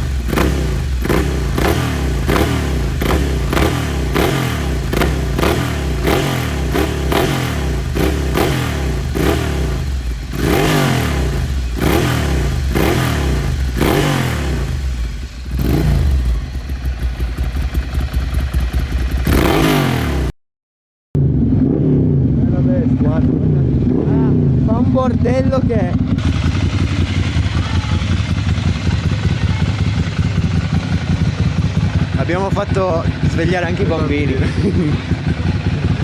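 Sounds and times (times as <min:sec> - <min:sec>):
motorcycle engine revving: 0:00.0 - 0:20.4, 0:21.2 - 0:36.0.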